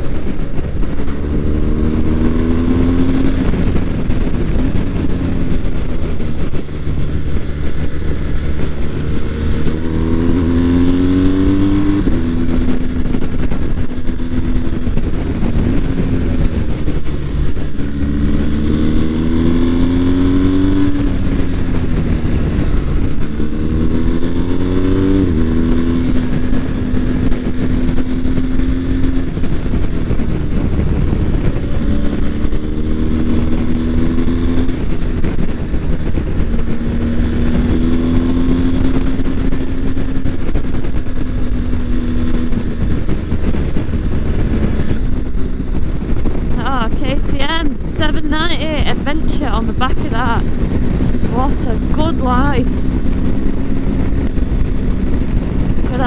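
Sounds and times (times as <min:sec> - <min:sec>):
motorcycle engine accelerating: 0:00.0 - 0:56.0
wind rushing: 0:00.0 - 0:56.0.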